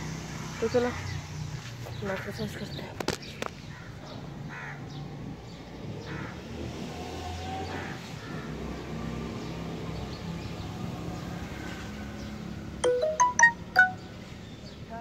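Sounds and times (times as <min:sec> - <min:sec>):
birds calling: 0:00.0 - 0:15.0
distant traffic hum: 0:00.0 - 0:15.0.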